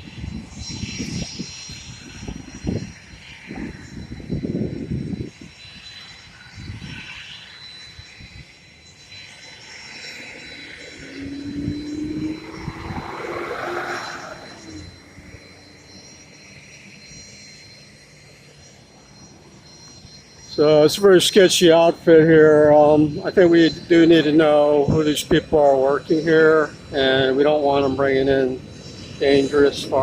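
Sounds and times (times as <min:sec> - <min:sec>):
aircraft engine running: 0:00.0 - 0:30.0
high whine: 0:00.0 - 0:30.0.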